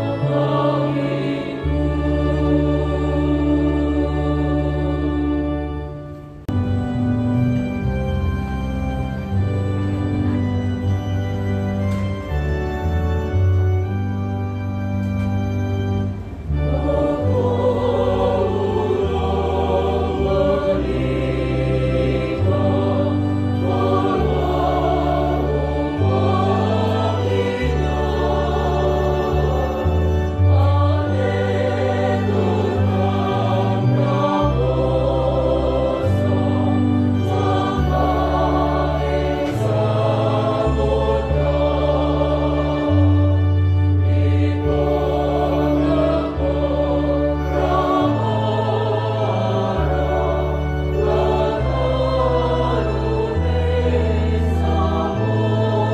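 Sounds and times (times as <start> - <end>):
choir singing: 0.0 - 14.0, 15.7 - 55.9
organ: 0.0 - 55.9.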